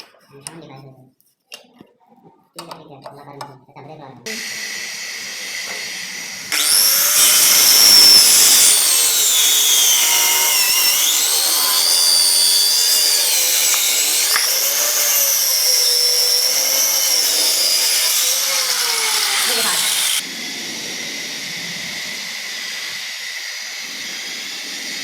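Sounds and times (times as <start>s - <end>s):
power tool whining through wood: 4.3s - 25.0s.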